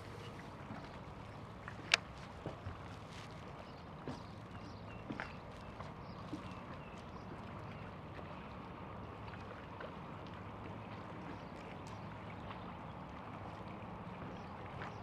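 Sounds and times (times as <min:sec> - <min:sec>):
waves lapping against boat hull: 0:00.0 - 0:15.0.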